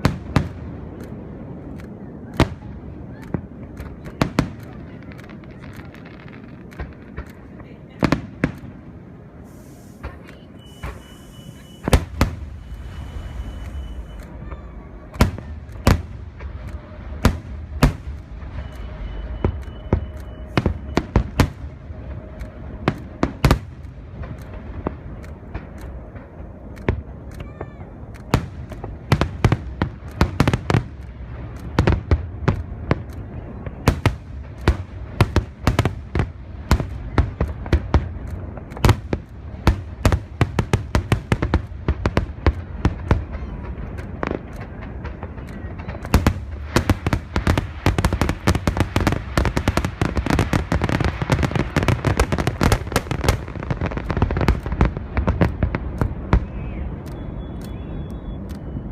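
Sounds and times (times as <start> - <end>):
fireworks bangs: 0.0 - 58.9
low rumble: 0.0 - 58.9.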